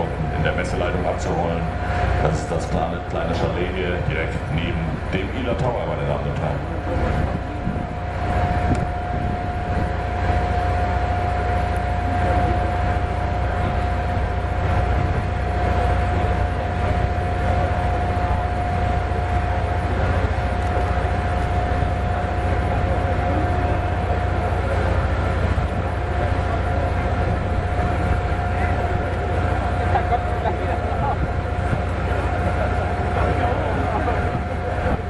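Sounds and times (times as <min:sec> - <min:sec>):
jet engine idling: 0:00.0 - 0:35.0.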